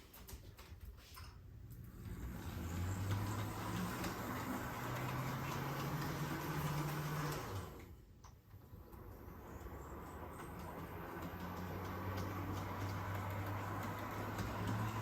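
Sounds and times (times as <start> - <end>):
wheels rolling on track: 1.7 - 15.0
model train motor hum: 1.9 - 7.9, 8.7 - 15.0.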